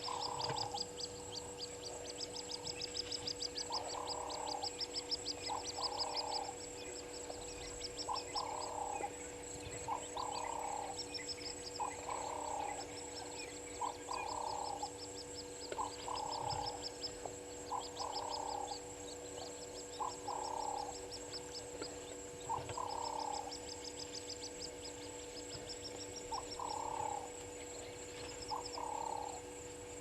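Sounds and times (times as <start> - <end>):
steady high drone: 0.0 - 30.0.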